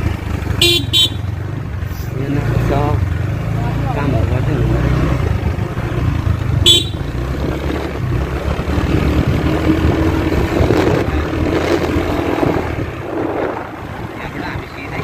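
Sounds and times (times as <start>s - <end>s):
motorcycle engine low rumble: 0.0s - 15.0s.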